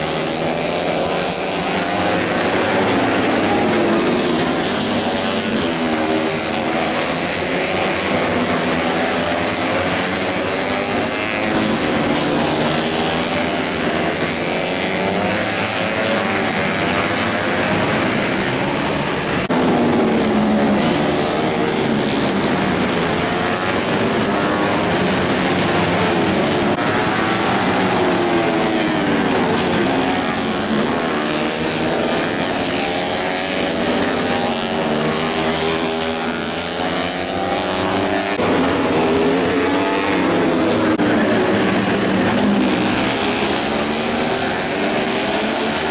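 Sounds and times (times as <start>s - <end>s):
racing motorcycle engines: 0.0s - 45.9s.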